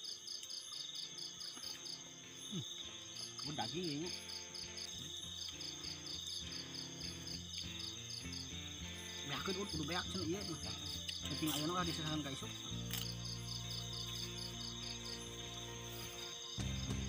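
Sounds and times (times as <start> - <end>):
high insect trill: 0.0 - 17.0
night insects chirping: 0.0 - 17.0.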